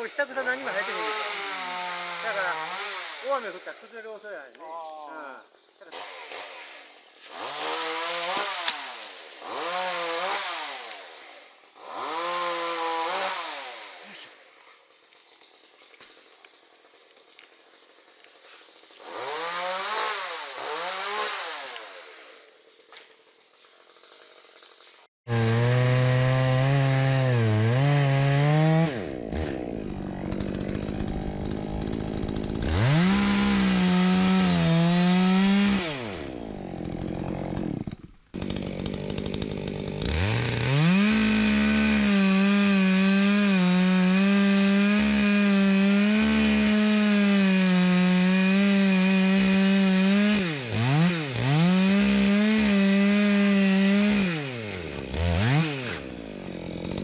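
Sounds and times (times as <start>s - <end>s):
chainsaw cutting wood: 0.0s - 4.2s, 5.8s - 57.0s.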